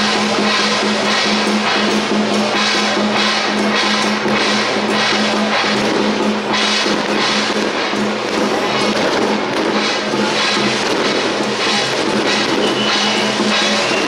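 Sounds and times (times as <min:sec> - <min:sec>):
drums beating: 0:00.0 - 0:14.0
hand cymbals clashing: 0:00.0 - 0:14.0.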